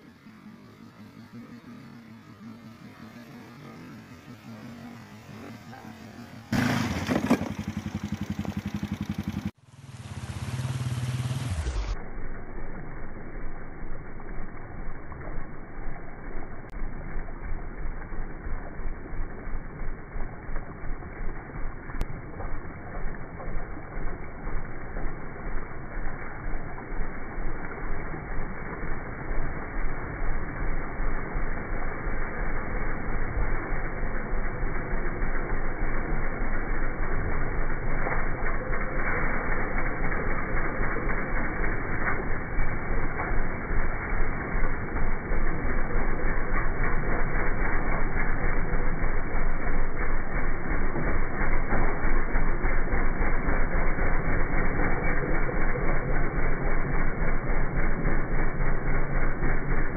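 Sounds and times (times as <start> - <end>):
motorcycle engine running hard: 0.0 - 59.9
steady low hum: 0.0 - 59.9
water splashing: 0.0 - 59.9.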